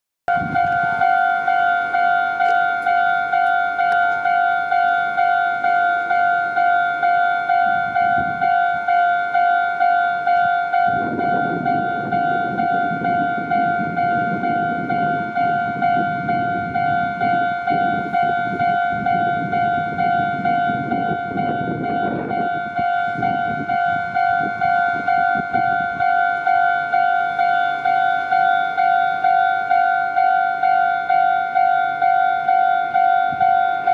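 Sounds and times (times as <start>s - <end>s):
railroad crossing bell dinging: 0.3s - 33.9s
train rumbling: 0.3s - 33.9s.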